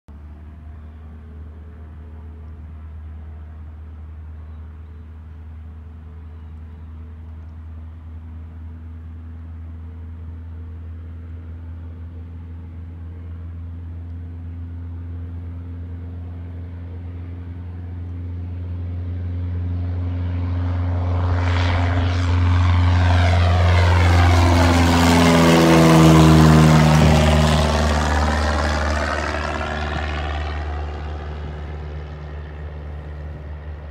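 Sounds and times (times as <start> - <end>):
small plane engine and propeller: 0.1 - 33.9.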